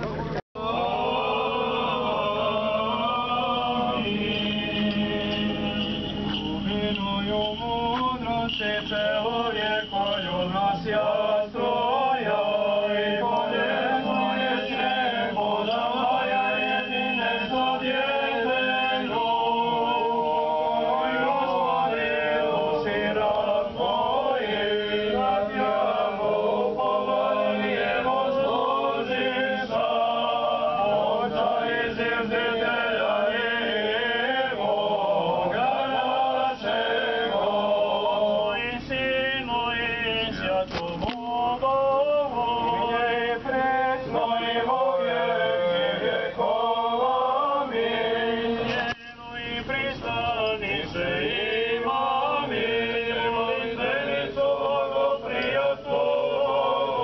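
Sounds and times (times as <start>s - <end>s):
male voices chanting a hymn: 0.6s - 57.0s.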